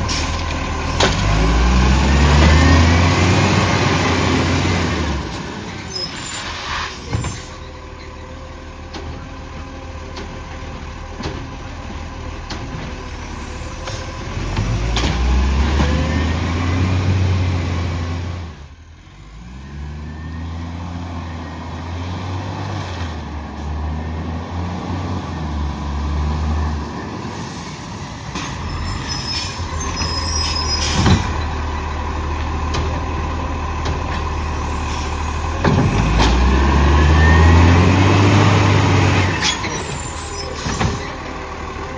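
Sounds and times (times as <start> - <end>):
garbage truck engine revving: 0.0 - 41.9.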